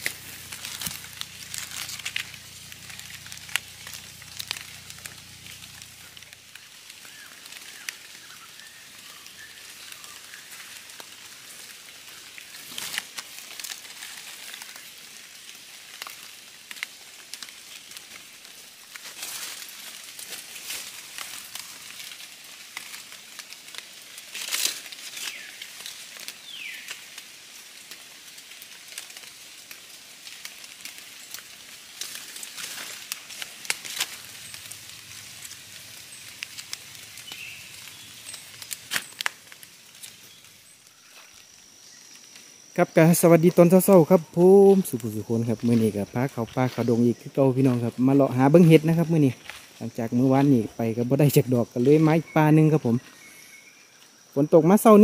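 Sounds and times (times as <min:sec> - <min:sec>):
forest background hiss: 0:00.0 - 0:55.0
leaves and twigs rustling: 0:00.0 - 0:55.0.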